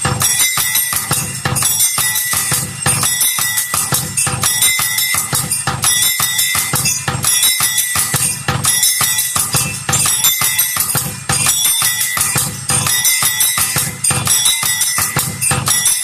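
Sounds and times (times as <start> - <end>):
low drum-like thumps: 0.0 - 16.0
metal bells ringing: 0.0 - 16.0.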